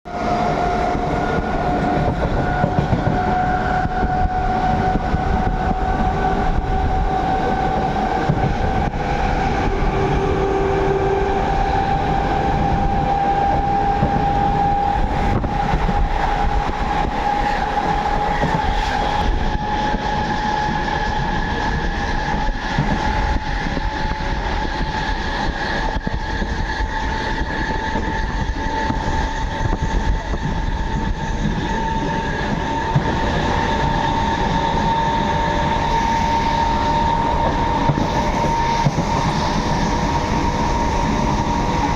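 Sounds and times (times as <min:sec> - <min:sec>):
train wheels rumbling on track: 0:00.0 - 0:41.9
rising whining tone: 0:00.1 - 0:41.9.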